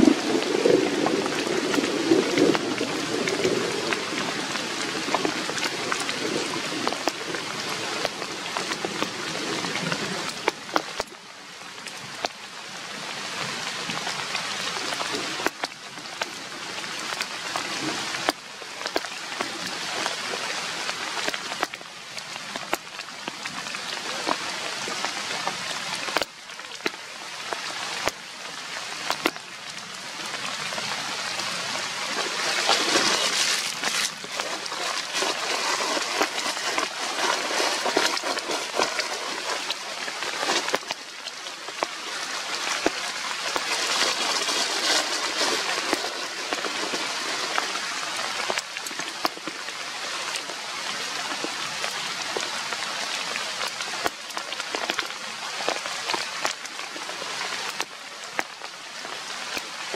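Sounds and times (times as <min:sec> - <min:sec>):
rain falling on leaves: 0:00.0 - 0:59.9
raindrops ticking: 0:00.0 - 0:59.9.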